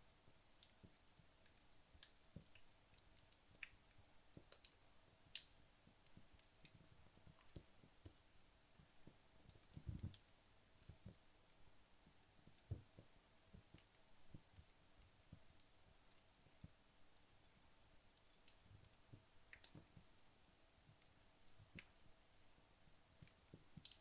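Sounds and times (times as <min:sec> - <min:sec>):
fireplace crackles and pops: 0:00.0 - 0:24.0.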